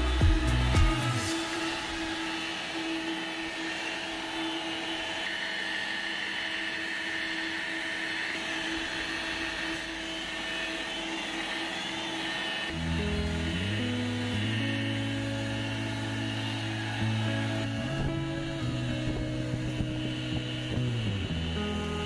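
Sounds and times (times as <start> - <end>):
electric polisher motor whining: 0.0 - 22.0.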